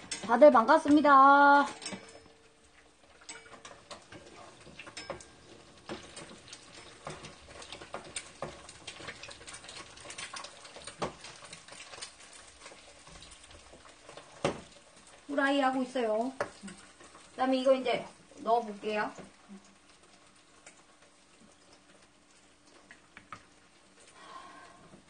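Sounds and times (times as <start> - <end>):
low sizzle: 0.0 - 25.0
oil crackling and popping: 0.0 - 25.0.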